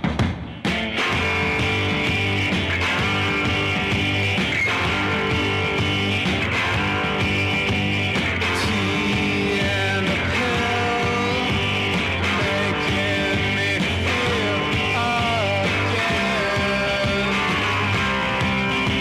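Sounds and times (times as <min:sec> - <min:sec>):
punk rock band playing: 0:00.0 - 0:19.0
sliding guitar notes: 0:00.7 - 0:19.0.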